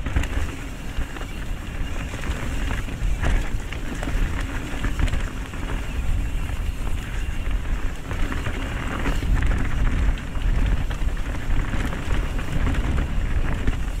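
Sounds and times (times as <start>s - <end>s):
bike rattling: 0.0s - 14.0s
wind buffeting microphone: 0.0s - 14.0s.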